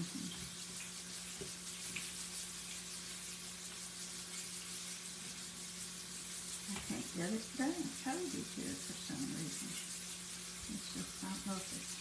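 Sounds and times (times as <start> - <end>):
faint steady hum: 0.0 - 12.0
livers sizzling in oil: 0.0 - 12.0.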